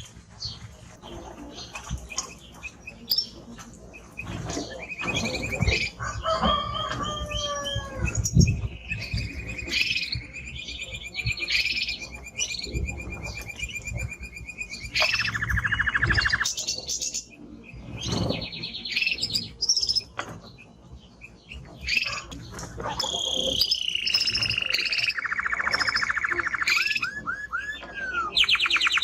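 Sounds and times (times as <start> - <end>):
canary singing: 1.4 - 29.0.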